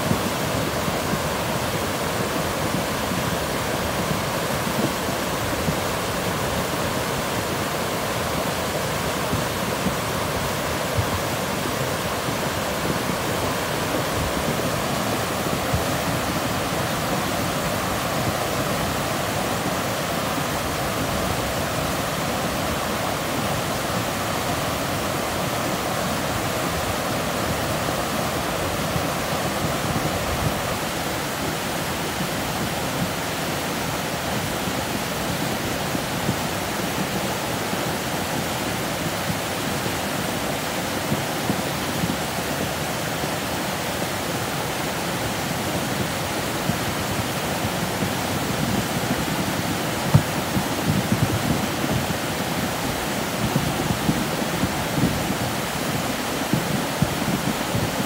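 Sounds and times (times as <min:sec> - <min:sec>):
flooded river churning over rocks: 0:00.0 - 0:58.0.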